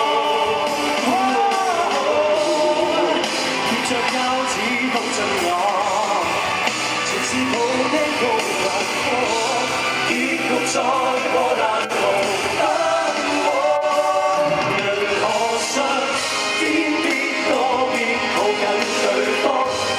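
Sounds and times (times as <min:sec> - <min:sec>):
person singing: 0:00.0 - 0:19.9
rock band playing: 0:00.0 - 0:19.9.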